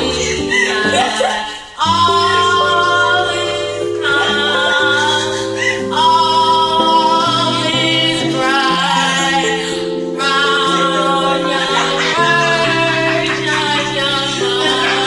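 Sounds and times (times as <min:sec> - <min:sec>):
backing track music: 0:00.0 - 0:15.0
woman singing karaoke: 0:00.0 - 0:15.0.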